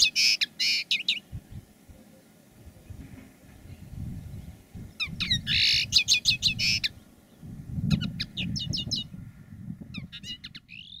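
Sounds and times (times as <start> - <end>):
linnet twittering song: 0.0 - 3.0, 3.6 - 11.0.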